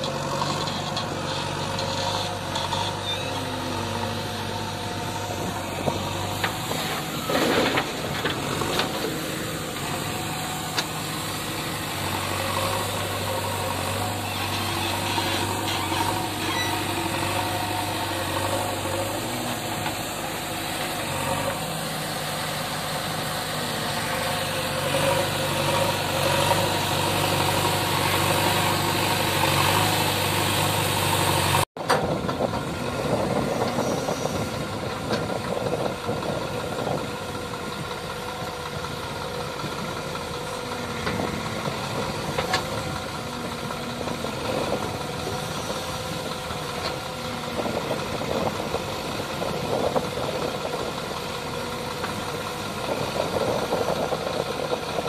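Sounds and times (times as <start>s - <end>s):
backhoe loader diesel engine: 0.0s - 55.0s
tractor idling: 0.0s - 55.0s.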